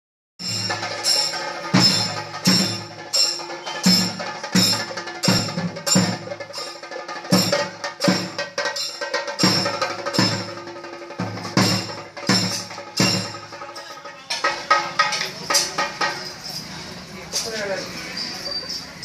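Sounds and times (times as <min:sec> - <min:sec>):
percussion ensemble drums and cymbals: 0:00.4 - 0:19.0.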